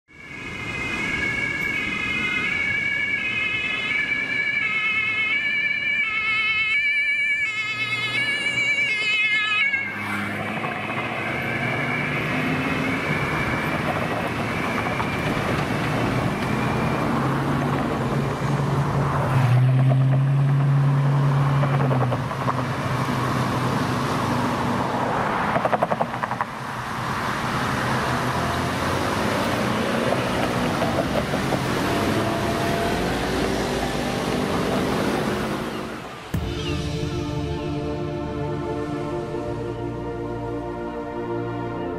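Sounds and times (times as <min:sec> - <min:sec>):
vehicles driving past: 0:00.2 - 0:41.9.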